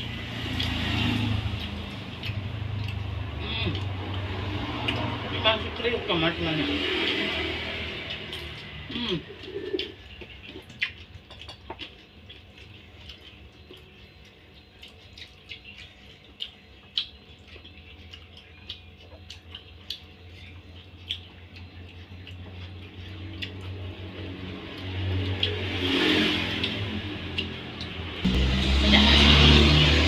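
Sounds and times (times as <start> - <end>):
crunching fried fish: 0.1 - 28.0.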